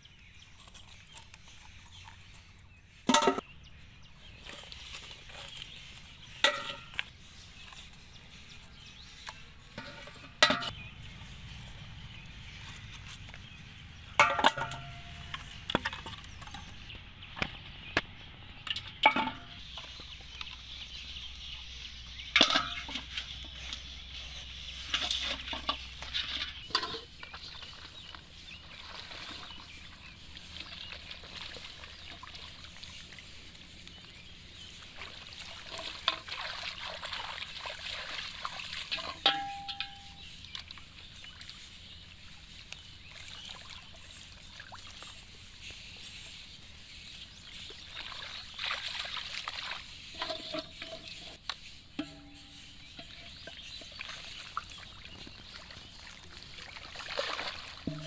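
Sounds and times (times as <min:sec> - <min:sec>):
water sloshing and splashing: 0:04.2 - 0:17.7, 0:18.5 - 0:58.0.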